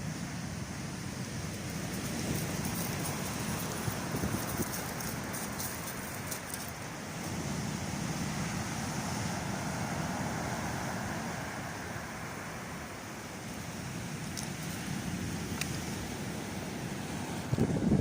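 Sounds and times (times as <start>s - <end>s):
waves breaking on beach: 0.0s - 18.0s
wind on microphone: 0.6s - 11.6s, 14.0s - 18.0s.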